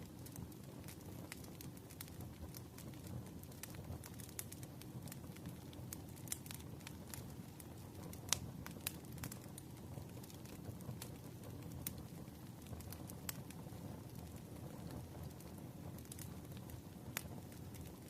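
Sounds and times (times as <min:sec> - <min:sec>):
fire crackling and popping: 0:00.0 - 0:18.0
low fire rumble: 0:00.0 - 0:18.0.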